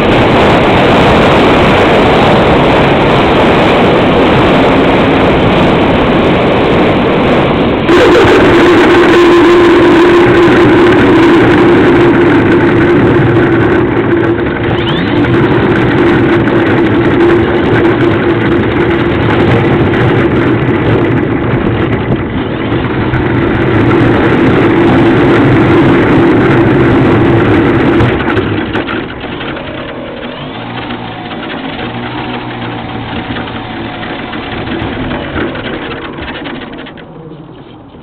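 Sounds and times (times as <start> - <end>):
model airplane motor and propeller: 0.0 - 38.0.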